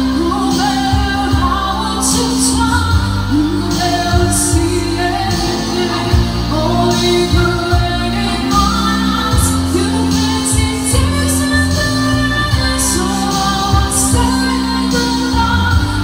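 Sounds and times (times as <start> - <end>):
amplified electric guitar: 0.0 - 16.0
sustained bass line: 0.0 - 16.0
woman singing into microphone: 0.0 - 16.0.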